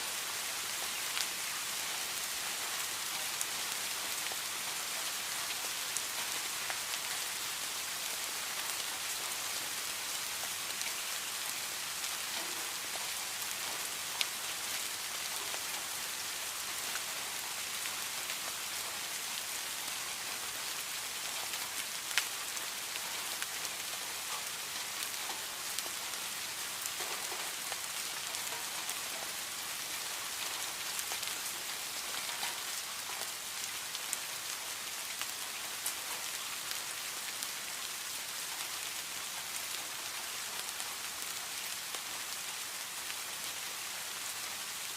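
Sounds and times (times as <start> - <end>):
rain on hard surface: 0.0 - 44.9.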